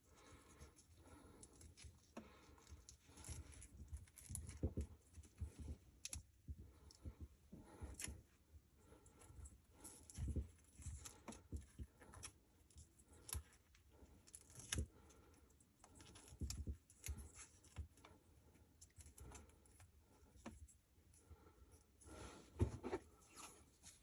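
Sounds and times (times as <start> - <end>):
faint clicks and rustles of wires: 0.0 - 24.0.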